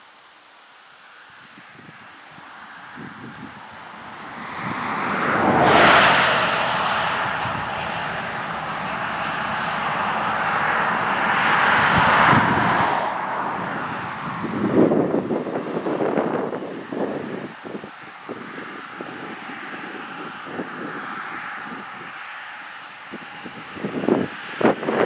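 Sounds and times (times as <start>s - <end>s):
highway traffic passing: 1.0s - 25.0s.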